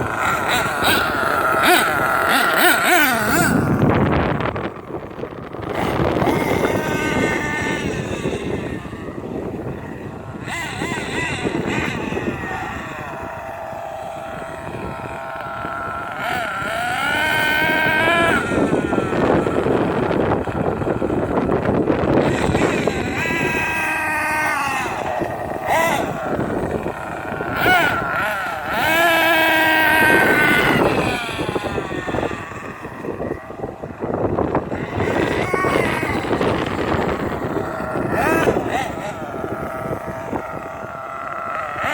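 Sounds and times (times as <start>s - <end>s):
rc truck motor running: 0.0s - 41.9s
small nitro engine revving: 0.0s - 41.9s
wind on microphone: 0.0s - 41.9s.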